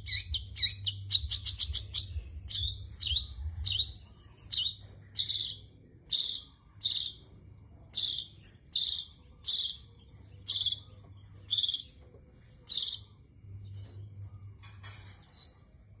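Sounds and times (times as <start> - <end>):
bird harsh rasping calls: 0.0 - 7.3, 7.9 - 12.0, 12.7 - 14.1.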